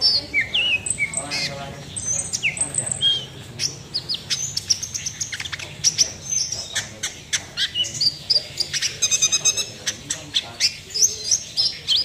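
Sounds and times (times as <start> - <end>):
sunbird singing rapid chirps: 0.0 - 12.0.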